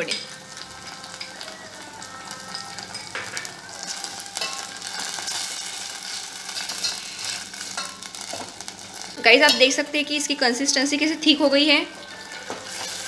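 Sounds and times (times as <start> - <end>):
sauce sizzling in a pot: 0.0 - 13.0.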